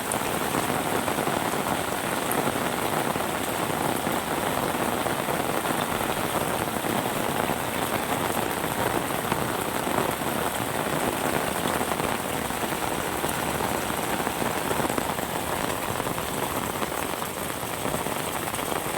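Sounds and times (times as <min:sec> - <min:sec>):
steady rain pattering: 0:00.0 - 0:18.9.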